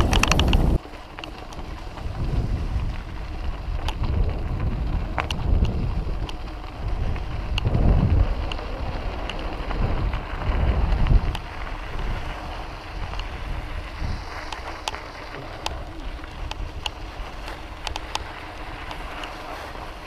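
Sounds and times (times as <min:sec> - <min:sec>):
wind buffeting microphone: 0:00.0 - 0:00.8, 0:01.4 - 0:20.0
bike rattling ticks: 0:00.0 - 0:20.0
tyres rolling on packed dirt: 0:00.0 - 0:20.0.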